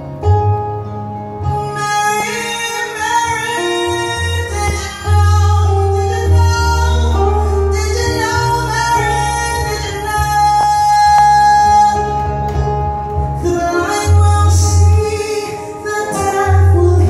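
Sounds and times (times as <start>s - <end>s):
acoustic guitar: 0.0s - 17.0s
keyboard bass notes: 0.0s - 17.0s
woman singing into microphone: 1.4s - 17.0s.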